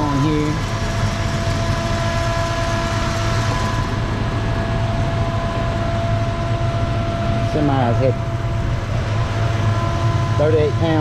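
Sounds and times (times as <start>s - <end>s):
engine idling: 0.0s - 11.0s
faint high whine: 0.0s - 11.0s.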